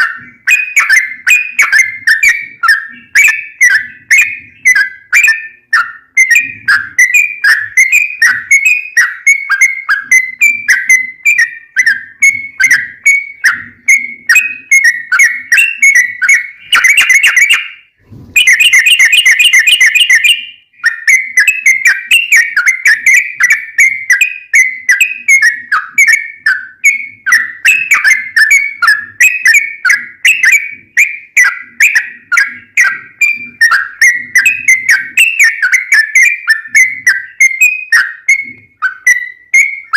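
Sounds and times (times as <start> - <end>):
bird whistling rapid notes: 0.0 - 39.9.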